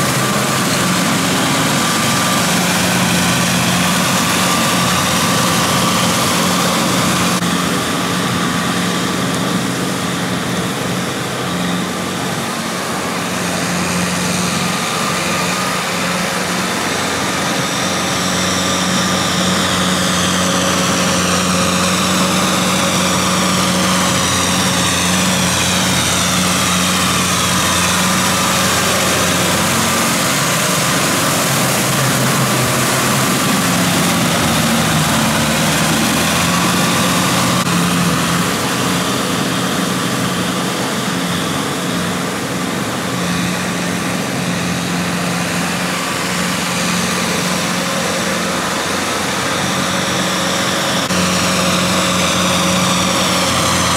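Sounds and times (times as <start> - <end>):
engine whines: 0.0 - 53.9
tractor diesel engine running: 0.0 - 53.9.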